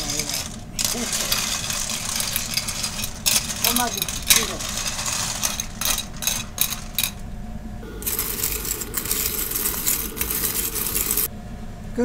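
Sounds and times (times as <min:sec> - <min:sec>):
shells rattling in steel pot: 0:00.0 - 0:07.2, 0:08.0 - 0:11.3.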